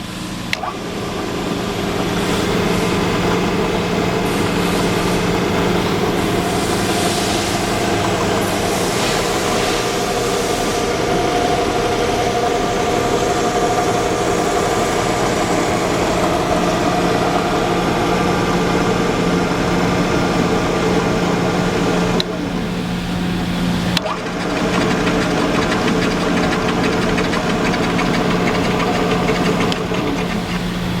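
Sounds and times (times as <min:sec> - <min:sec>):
milling machine motor humming: 0:00.0 - 0:31.0.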